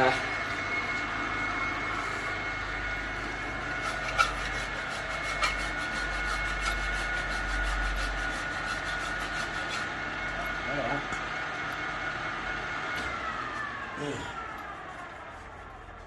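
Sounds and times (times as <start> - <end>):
lathe whine and hum: 0.0 - 16.0.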